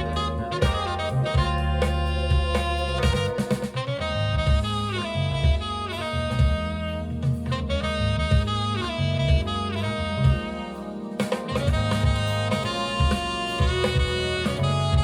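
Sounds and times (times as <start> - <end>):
bass line: 0.0 - 15.0
drum kit: 0.0 - 15.0
saxophone lead: 0.0 - 15.0.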